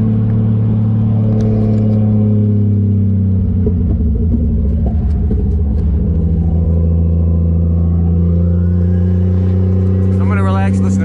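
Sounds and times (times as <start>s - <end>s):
car engine rumbling at low revs: 0.0s - 11.0s.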